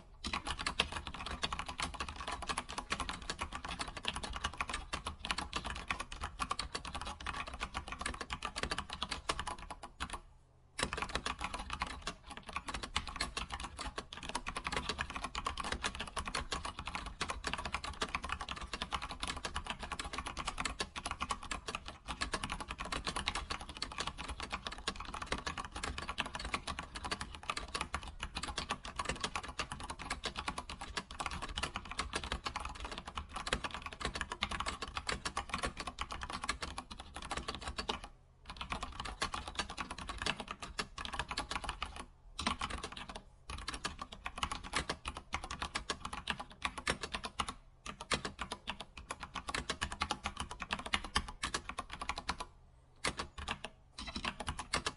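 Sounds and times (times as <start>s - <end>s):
computer keyboard typing: 0.0s - 54.9s.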